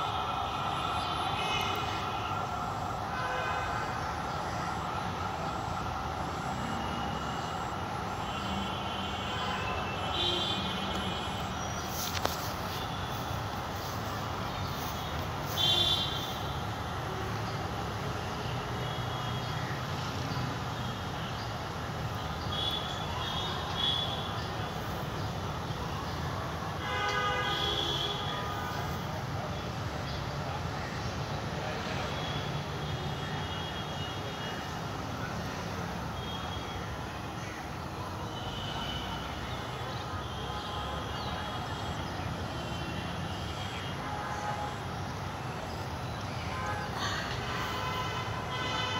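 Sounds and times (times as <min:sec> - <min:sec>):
distant city traffic rumble: 0:00.0 - 0:48.9.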